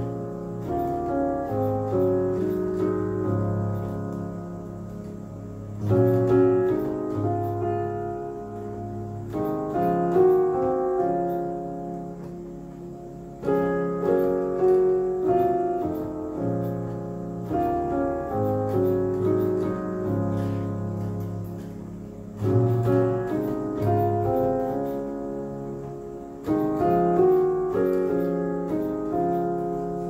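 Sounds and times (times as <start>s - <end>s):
slow piano chords: 0.0s - 30.0s.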